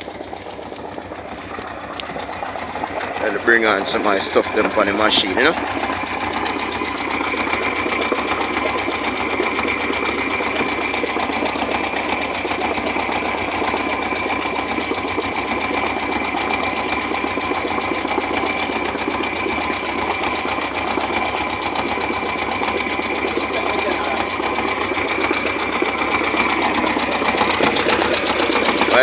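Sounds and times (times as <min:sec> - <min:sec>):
outboard motor idling: 0:00.0 - 0:29.0.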